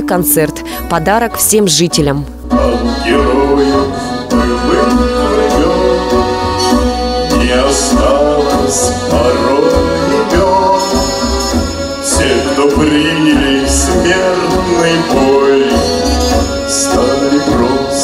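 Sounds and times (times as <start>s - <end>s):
accordion music with bass beat: 0.0s - 18.0s
man singing: 2.4s - 18.0s.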